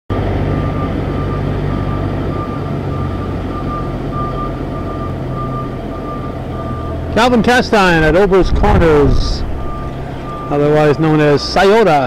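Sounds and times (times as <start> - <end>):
backup alarm beeping: 0.1 - 12.0
engine low hum: 0.1 - 12.0.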